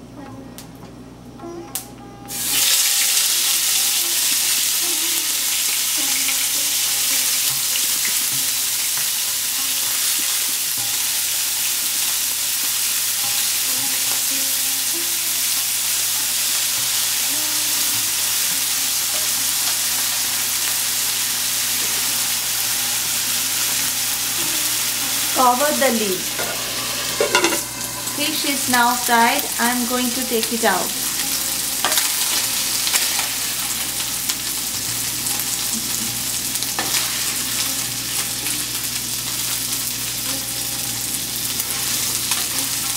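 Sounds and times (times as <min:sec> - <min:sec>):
fish sizzling in a frying pan: 0:02.3 - 0:42.9.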